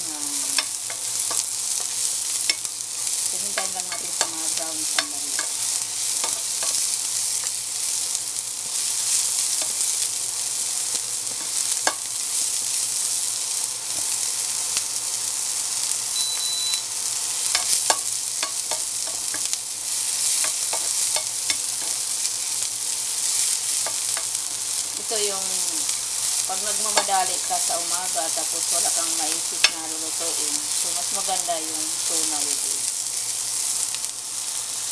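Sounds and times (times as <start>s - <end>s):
onion sizzling in hot oil: 0.0s - 34.9s.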